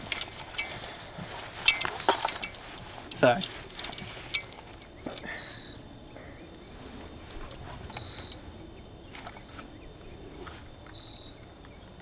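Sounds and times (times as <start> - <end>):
faint outdoor background noise: 0.0 - 12.0
insects trilling: 0.0 - 12.0.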